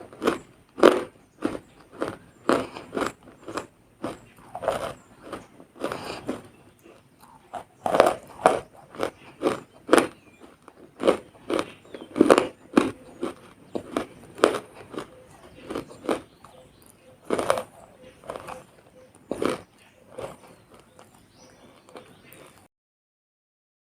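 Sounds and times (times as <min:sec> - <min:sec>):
biting and crunching: 0:00.0 - 0:22.7.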